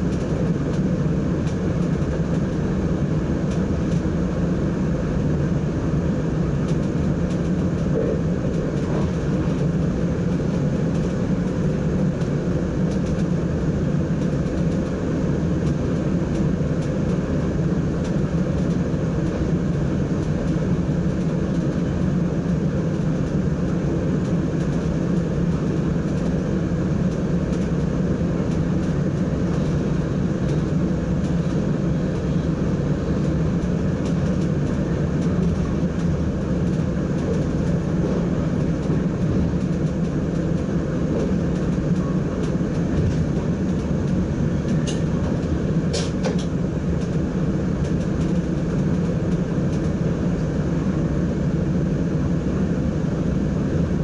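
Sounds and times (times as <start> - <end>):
train cab running drone: 0.0 - 54.0.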